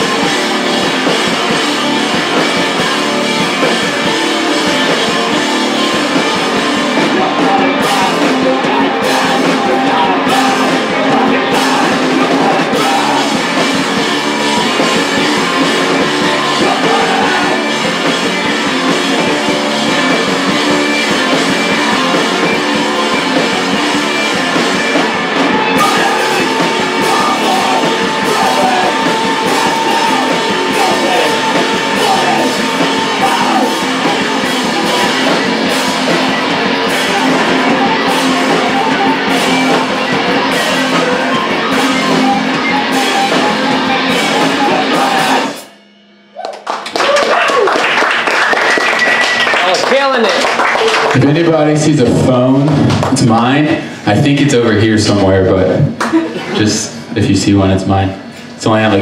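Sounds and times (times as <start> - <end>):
electric bass: 0.0 - 46.4, 51.1 - 59.0
drum kit: 0.0 - 59.0
electric guitars: 0.0 - 59.0.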